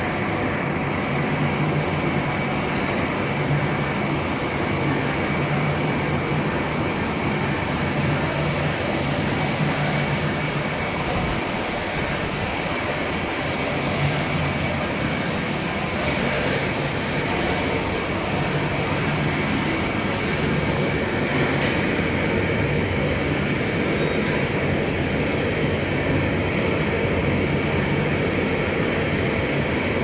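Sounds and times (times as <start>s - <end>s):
lathe running: 0.0s - 30.0s.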